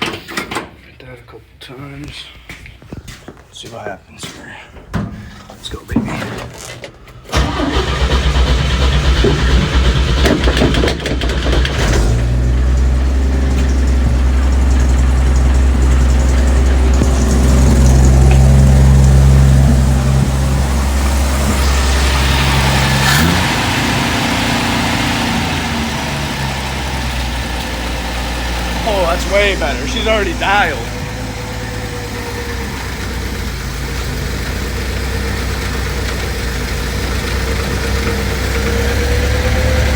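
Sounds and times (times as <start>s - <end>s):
pickup engine starting and idling: 7.3s - 39.9s.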